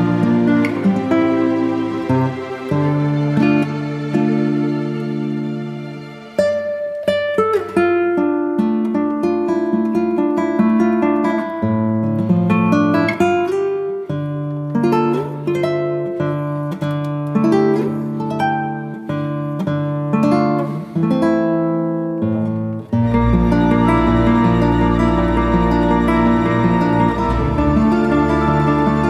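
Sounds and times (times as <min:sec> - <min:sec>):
fuller music with sustained notes: 0:00.0 - 0:29.0
plucked acoustic guitar melody: 0:00.0 - 0:29.0.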